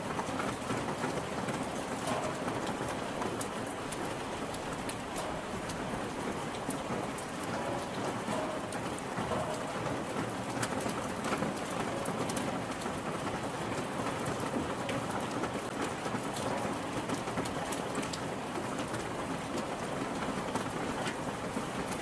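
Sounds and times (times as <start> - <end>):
rain falling on a surface: 0.0 - 22.0.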